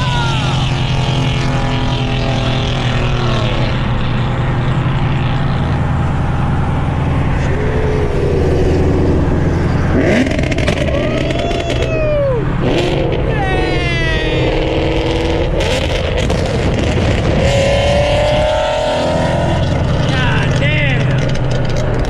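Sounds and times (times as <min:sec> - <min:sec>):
car engine drone: 0:00.0 - 0:22.0
tyre road noise: 0:00.0 - 0:22.0.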